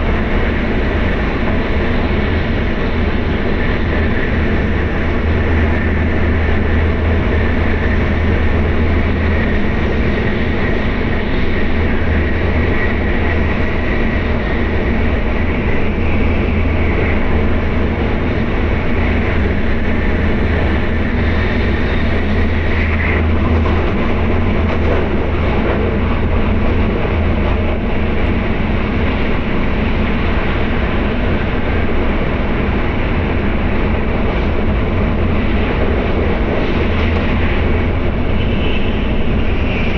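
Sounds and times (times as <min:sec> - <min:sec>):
train low rumble: 0:00.0 - 0:39.9.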